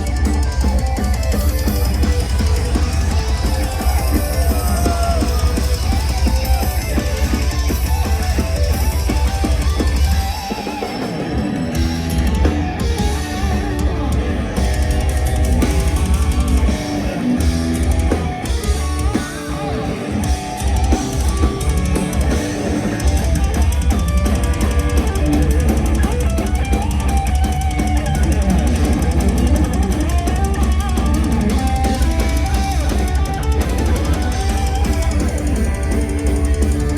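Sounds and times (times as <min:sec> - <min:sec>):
heavy bass drum: 0:00.0 - 0:10.4, 0:11.8 - 0:36.9
heavy metal band playing live: 0:00.0 - 0:36.9.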